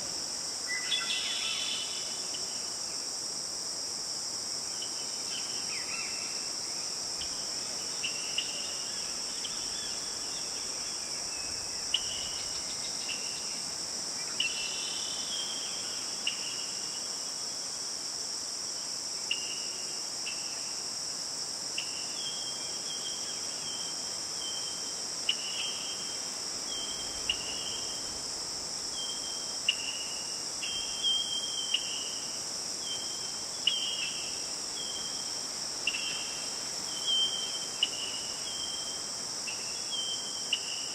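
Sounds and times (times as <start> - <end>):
cricket trill: 0.0 - 40.9
insect chirps: 0.0 - 40.9.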